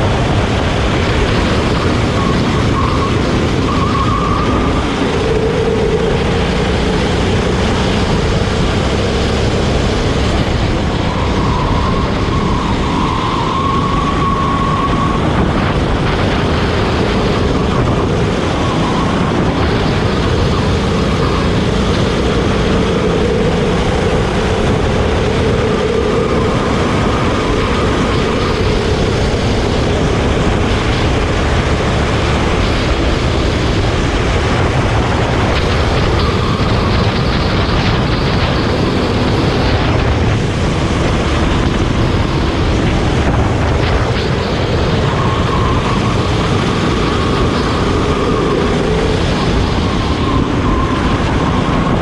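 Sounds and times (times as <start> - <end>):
go-kart engine revving: 0.0 - 52.0
steady rush of noise: 0.0 - 52.0.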